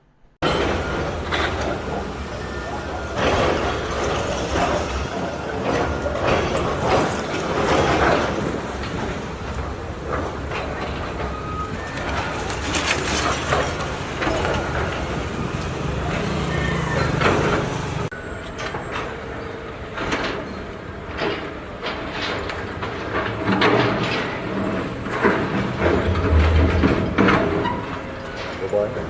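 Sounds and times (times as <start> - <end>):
heavy engines rumbling: 0.4 - 29.0
masonry and debris clanking: 0.4 - 29.0.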